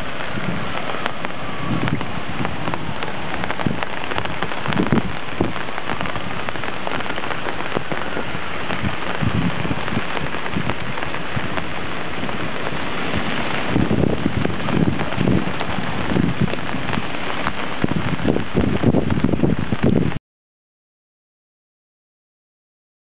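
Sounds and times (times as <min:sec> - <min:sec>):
heavy rain pattering: 0:00.0 - 0:20.2
low thunder rumbles: 0:00.0 - 0:20.2.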